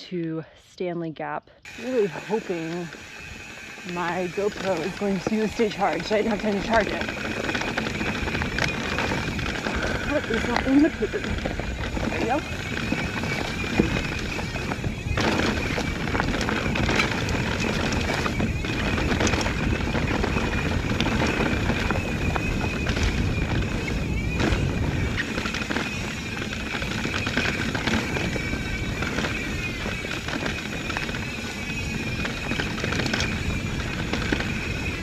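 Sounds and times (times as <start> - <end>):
bike clicks and rattles: 1.7 - 35.0
bike tyres rolling on trail: 1.7 - 35.0.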